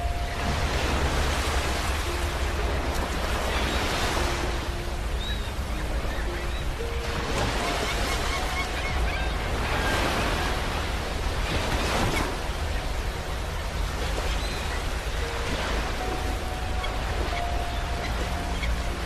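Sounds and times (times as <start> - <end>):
waves breaking on a beach: 0.0 - 19.0.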